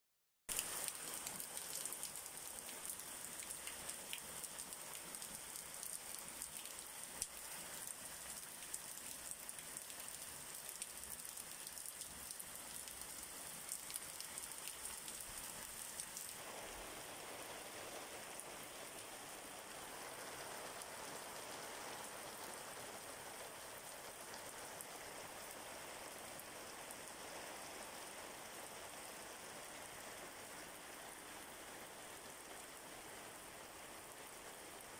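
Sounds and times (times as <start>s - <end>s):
rain falling: 0.5s - 34.9s.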